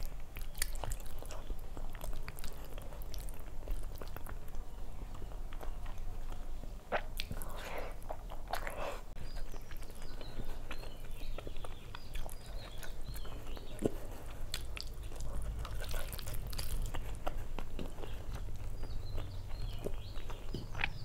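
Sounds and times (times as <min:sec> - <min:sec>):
chewing with wet mouth clicks: 0:00.0 - 0:21.0.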